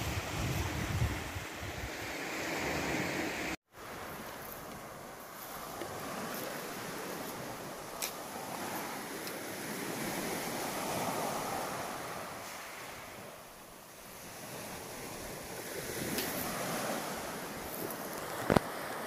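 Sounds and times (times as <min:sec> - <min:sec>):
waves washing on pebble beach: 0:00.0 - 0:19.0.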